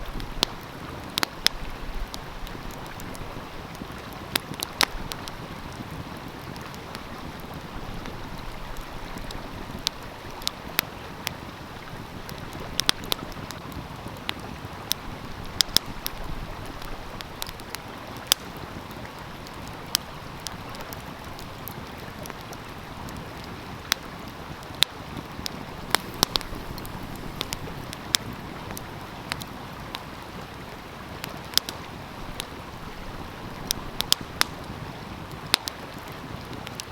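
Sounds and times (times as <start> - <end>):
stream flowing: 0.0 - 36.8
wood fire crackling and popping: 0.0 - 36.9.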